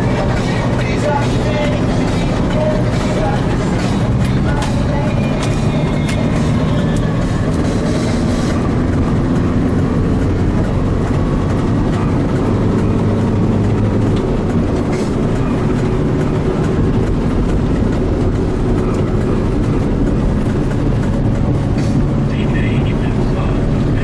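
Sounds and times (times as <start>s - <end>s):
vehicle engine and tyre rumble: 0.0s - 24.0s.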